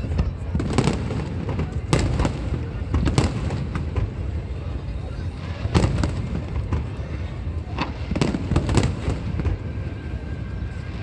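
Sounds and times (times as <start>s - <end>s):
fireworks bangs and pops: 0.0s - 4.6s, 5.3s - 9.7s.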